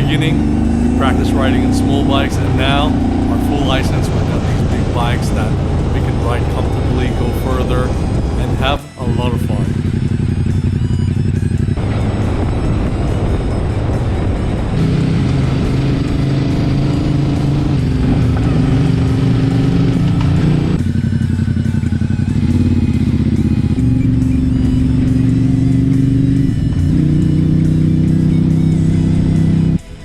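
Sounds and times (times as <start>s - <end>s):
background music: 0.0s - 30.0s
motorcycle engine running: 0.0s - 30.0s.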